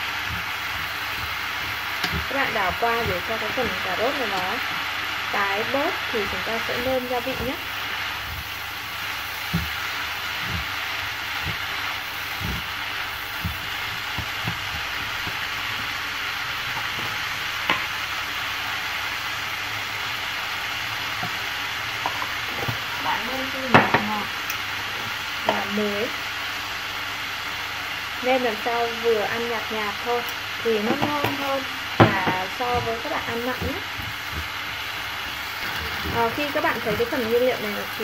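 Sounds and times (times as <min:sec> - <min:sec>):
vegetables sizzling in oil: 0:00.0 - 0:38.0.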